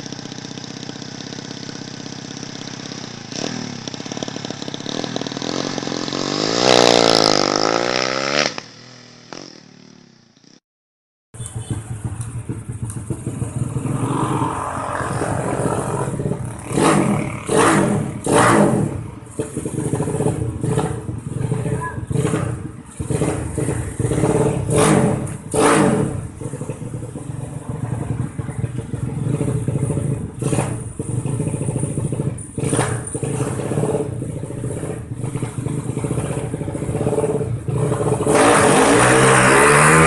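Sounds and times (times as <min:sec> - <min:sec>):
motorcycle engine revving: 0:00.0 - 0:10.6, 0:11.4 - 0:40.0.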